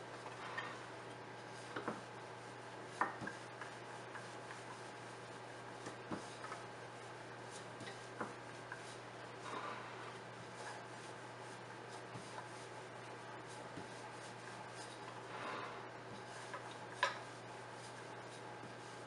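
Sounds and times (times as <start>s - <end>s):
rolling pin rubbing dough: 0.0s - 19.0s.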